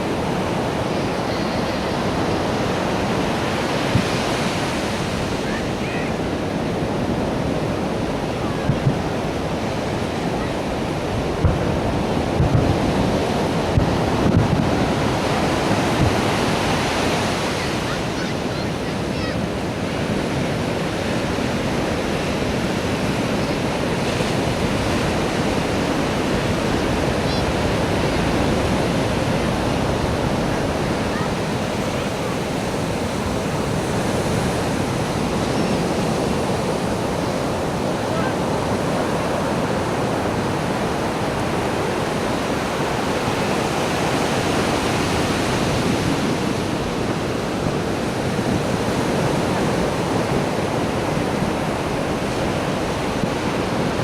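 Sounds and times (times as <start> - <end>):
surf rushing: 0.0 - 54.0
wind noise on microphone: 0.0 - 54.0.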